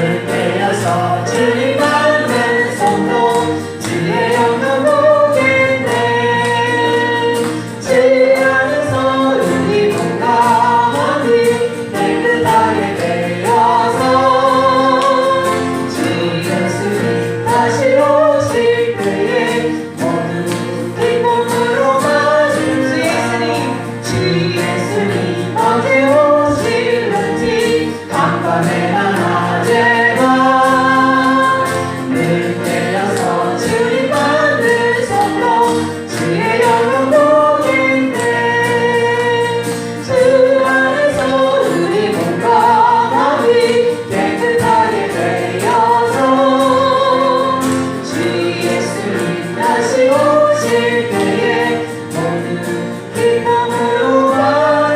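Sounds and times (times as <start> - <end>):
band accompaniment: 0.0 - 54.9
congregation singing: 0.0 - 54.9.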